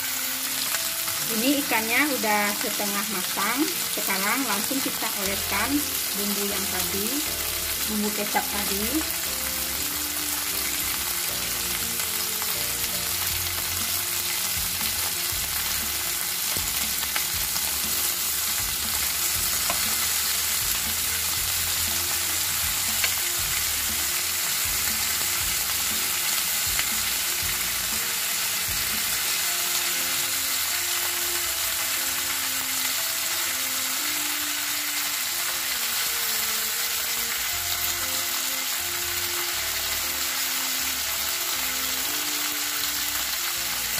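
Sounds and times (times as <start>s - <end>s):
fish sizzling in a grill pan: 0.0s - 43.9s.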